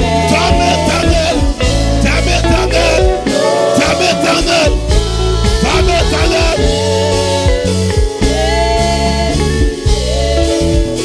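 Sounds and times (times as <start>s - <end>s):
congregation singing a hymn: 0.0s - 11.0s
live band playing: 0.0s - 11.0s.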